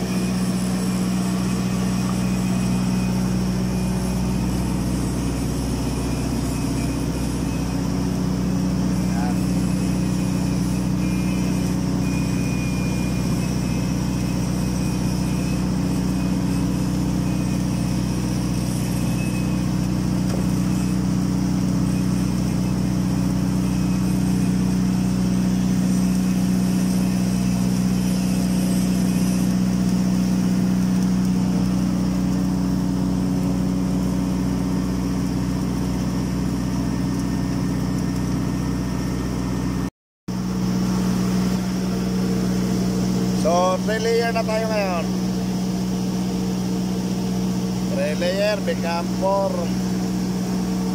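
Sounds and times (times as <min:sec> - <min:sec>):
welding machine mechanical hum: 0:00.0 - 0:50.9.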